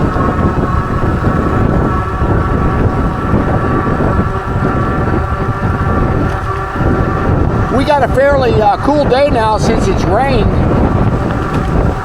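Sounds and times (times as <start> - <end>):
hub motor whine: 0.0 - 12.0
wind buffeting microphone: 0.0 - 12.0.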